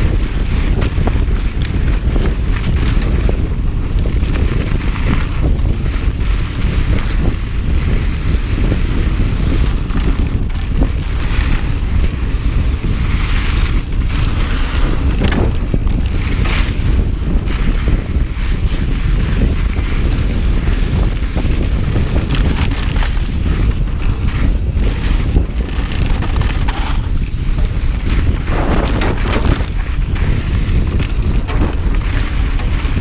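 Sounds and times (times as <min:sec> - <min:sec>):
bike clicks and rattles: 0:00.0 - 0:33.0
wind rumble on microphone: 0:00.0 - 0:33.0.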